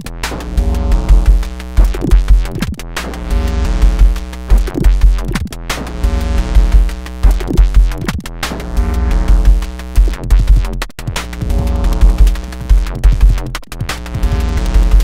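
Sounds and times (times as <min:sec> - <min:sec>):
looping synthesizer pattern: 0:00.0 - 0:10.8, 0:11.4 - 0:15.0
drum strikes with pitch sweeps: 0:00.0 - 0:15.0.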